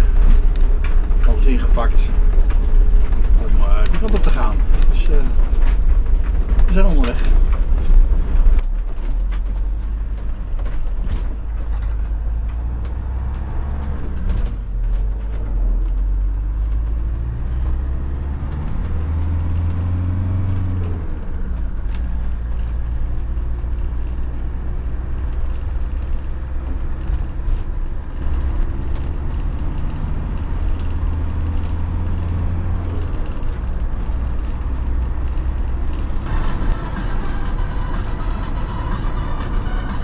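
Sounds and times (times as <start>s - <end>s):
van engine and road rumble: 0.0s - 40.0s.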